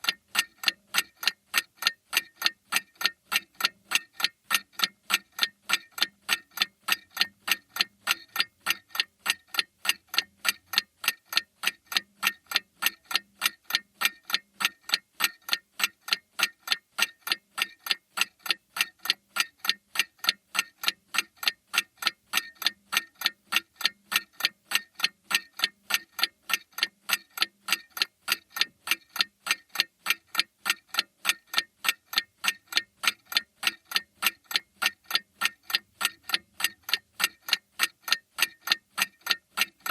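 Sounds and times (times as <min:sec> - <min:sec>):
mantel clock ticking: 0:00.0 - 0:39.9.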